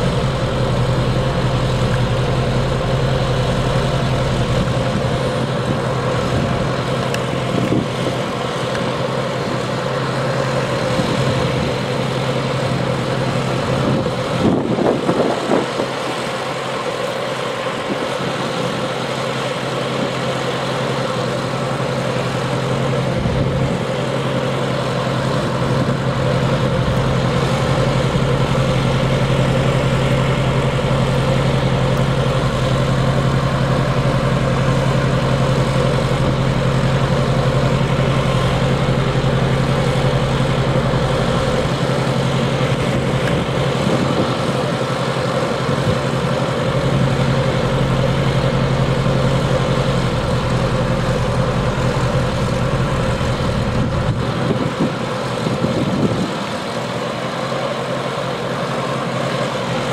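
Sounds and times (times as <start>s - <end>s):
helicopter engine and rotor idling: 0.0s - 59.9s.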